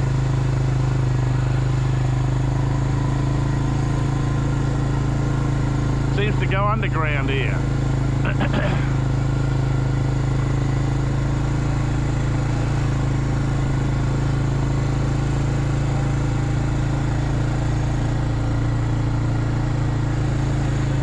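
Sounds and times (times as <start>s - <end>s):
small engine running steadily: 0.0s - 21.0s.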